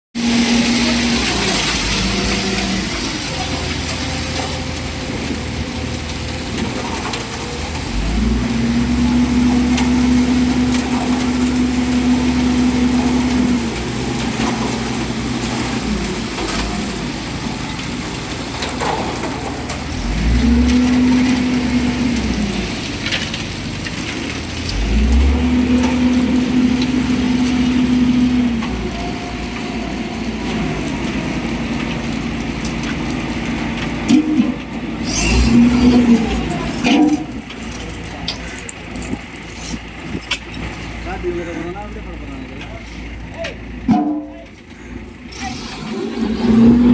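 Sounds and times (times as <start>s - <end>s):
diesel engine revving: 0.1s - 46.9s.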